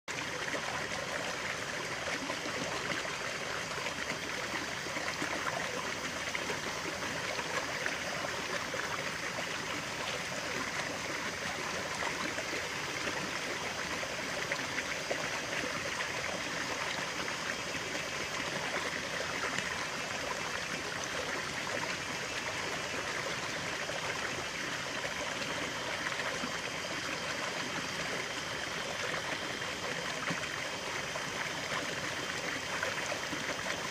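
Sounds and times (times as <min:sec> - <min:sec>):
stream water running: 0:00.1 - 0:33.9.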